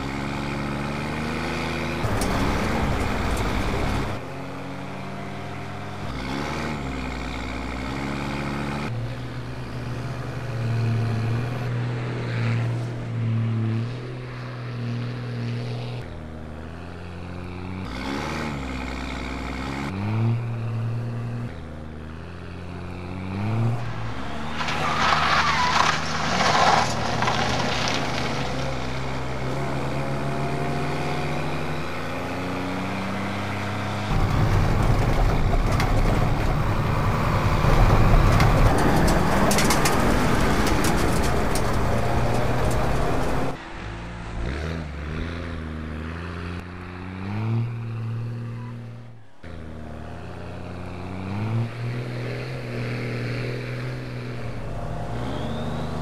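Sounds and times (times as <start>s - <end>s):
road noise: 0.0s - 56.0s
car engine accelerating through gears: 9.7s - 56.0s.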